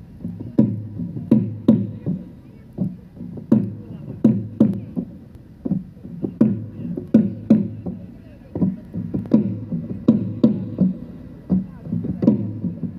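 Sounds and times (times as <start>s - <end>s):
folk dance music: 0.0s - 12.9s
low drum strokes: 0.0s - 12.9s.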